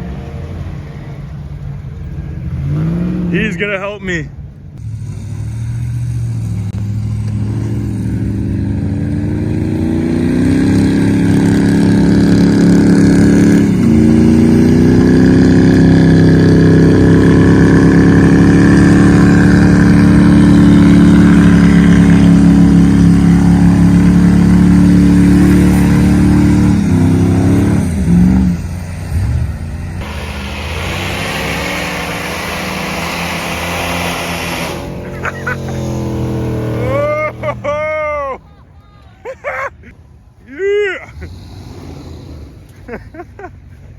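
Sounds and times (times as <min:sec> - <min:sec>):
truck engine revving: 0:00.0 - 0:38.6, 0:41.0 - 0:43.8.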